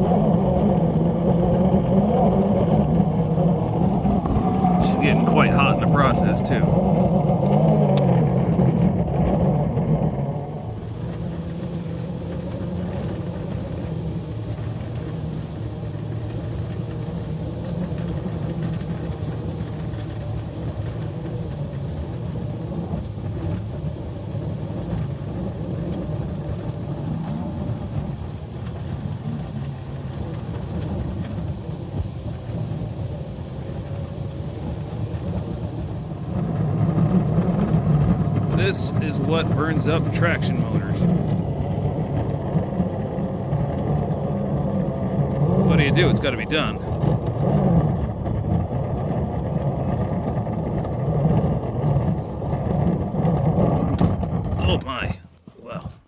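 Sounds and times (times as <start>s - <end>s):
model locomotive running under load: 0.0s - 55.0s.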